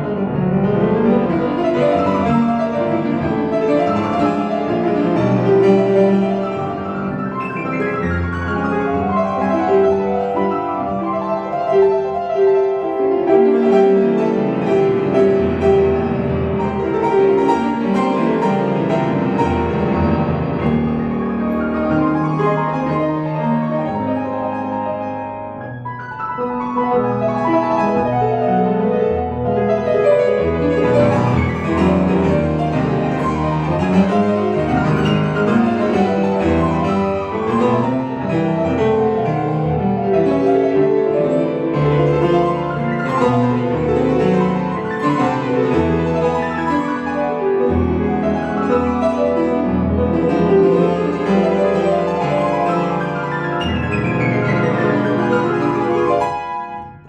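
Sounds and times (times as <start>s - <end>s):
solo classical piano: 0.0s - 57.0s.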